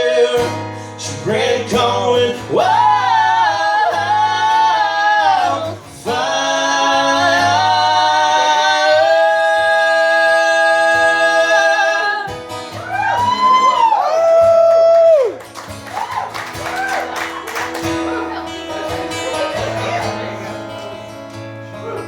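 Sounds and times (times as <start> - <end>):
guitar accompaniment: 0.0 - 22.0.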